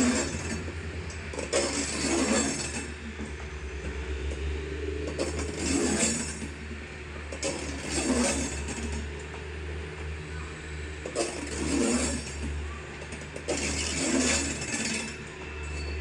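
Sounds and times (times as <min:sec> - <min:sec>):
train wheel clatter: 0:00.0 - 0:10.2, 0:11.0 - 0:16.0
steady low hum: 0:00.0 - 0:16.0
train rolling on rails: 0:00.0 - 0:16.0.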